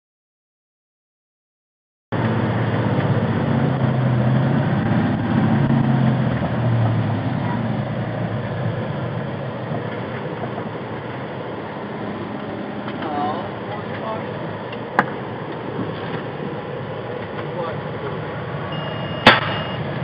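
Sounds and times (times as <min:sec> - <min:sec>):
diesel engine running: 0:02.1 - 0:20.0.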